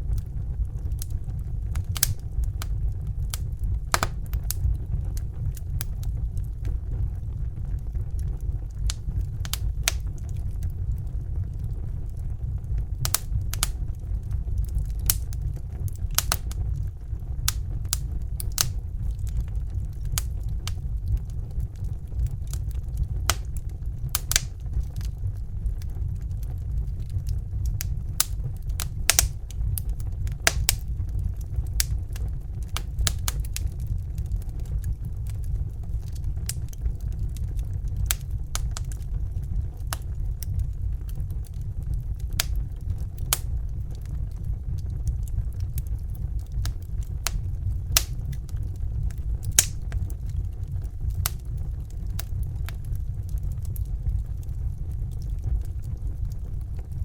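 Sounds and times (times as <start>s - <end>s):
burner flame roaring: 0.0s - 57.0s
fire crackling with pops: 0.0s - 57.0s.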